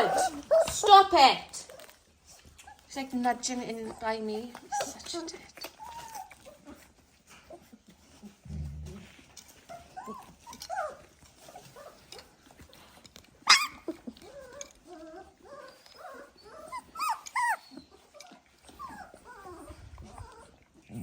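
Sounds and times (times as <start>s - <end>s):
puppies squeaking and whimpering: 0.0s - 21.0s.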